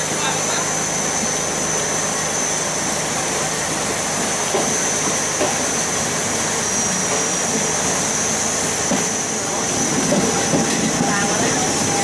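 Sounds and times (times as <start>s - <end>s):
steady high-pitched whine: 0.0s - 12.0s
train rolling slowly: 0.0s - 12.0s.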